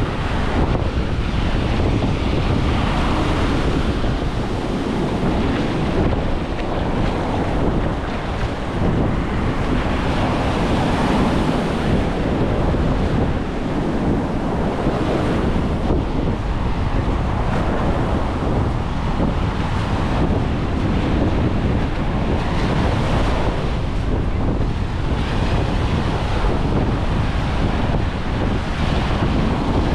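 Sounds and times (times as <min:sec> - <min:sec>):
ocean surf breaking: 0:00.0 - 0:29.9
wind buffeting microphone: 0:00.0 - 0:29.9.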